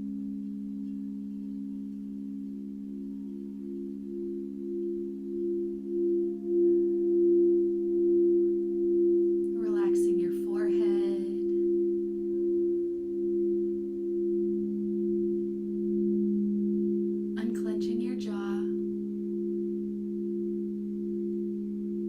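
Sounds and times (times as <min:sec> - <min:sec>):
singing bowls droning: 0:00.0 - 0:22.0.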